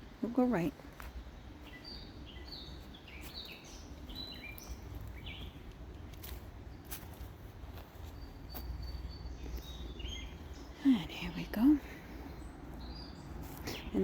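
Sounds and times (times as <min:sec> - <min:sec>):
songbird chirping: 0:00.0 - 0:14.0
steady low rumble: 0:00.0 - 0:14.0.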